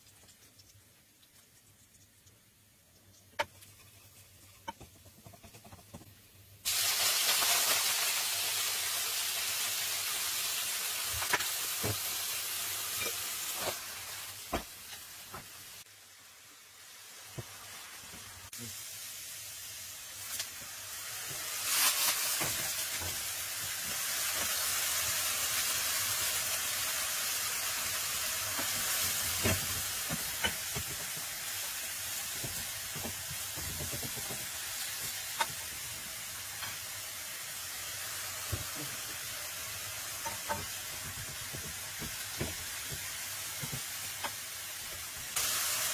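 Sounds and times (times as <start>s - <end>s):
vegetables sizzling in oil: 2.9s - 45.9s.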